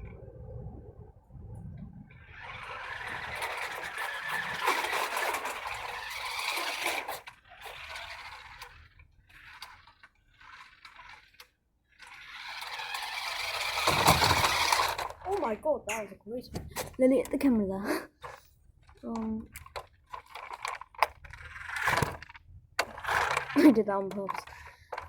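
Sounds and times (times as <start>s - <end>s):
remote-control car whirring: 2.0s - 15.6s, 18.2s - 25.0s.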